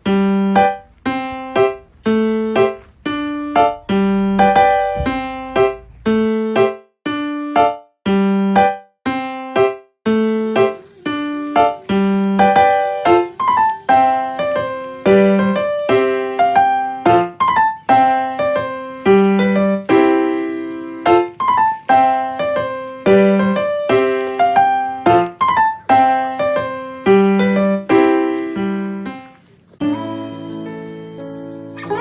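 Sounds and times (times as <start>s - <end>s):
light piano tune: 0.0s - 32.0s.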